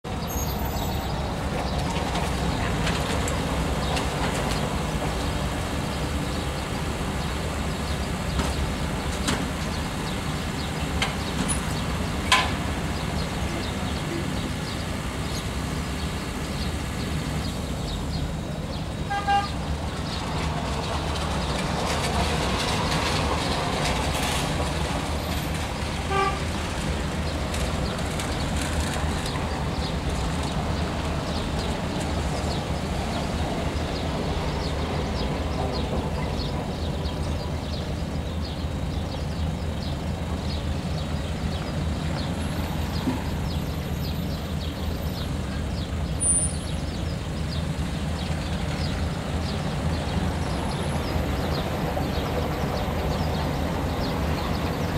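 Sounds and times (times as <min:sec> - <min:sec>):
engines and traffic rumble: 0:00.0 - 0:54.9.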